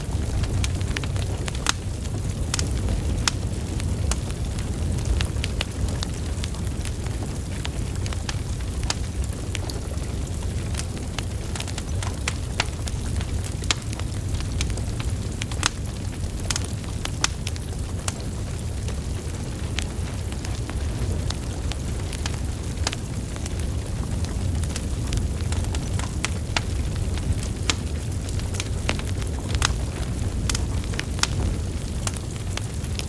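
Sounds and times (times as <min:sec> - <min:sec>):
wood fire burning: 0:00.0 - 0:33.0.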